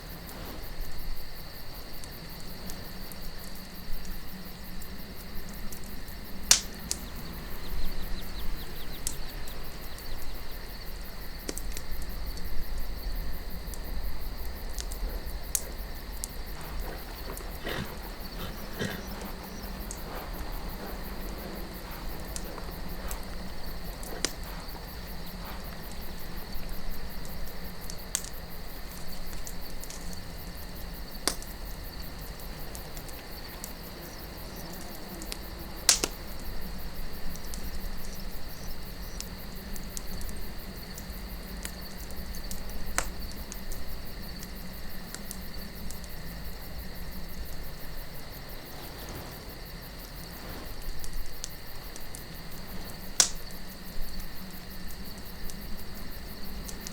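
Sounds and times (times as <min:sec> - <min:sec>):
crickets chirring: 0:00.0 - 0:56.9
low wind rumble: 0:00.0 - 0:56.9
wood fire crackling and popping: 0:00.0 - 0:56.9.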